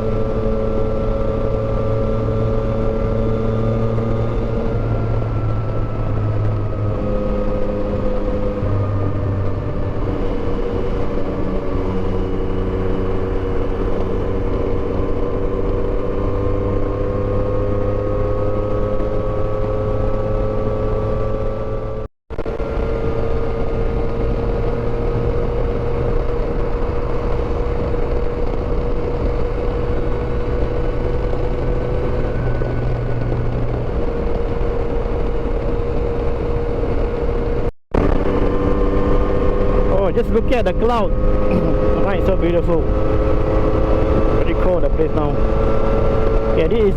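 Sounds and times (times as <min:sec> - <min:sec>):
motorcycle engine cruising: 0:00.0 - 0:46.9
riding wind noise: 0:00.0 - 0:46.9.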